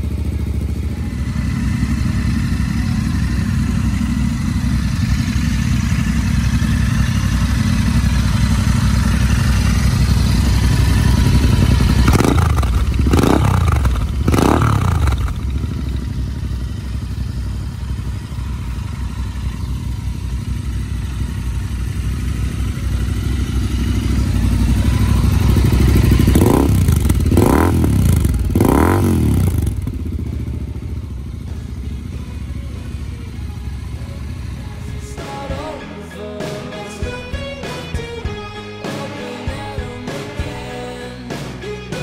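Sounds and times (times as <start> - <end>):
motorcycle engine revving and idling: 0.0 - 42.0.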